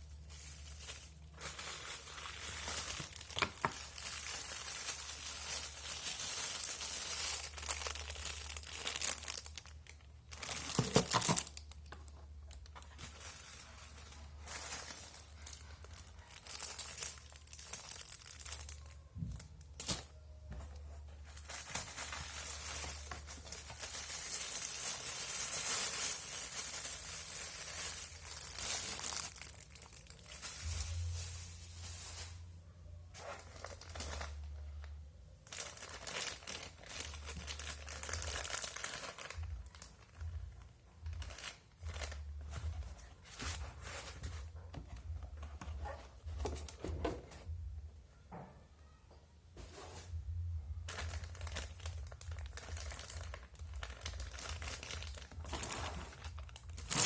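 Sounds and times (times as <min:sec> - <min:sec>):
plastic packaging crinkling and tearing: 0:00.0 - 0:47.4, 0:50.8 - 0:57.0.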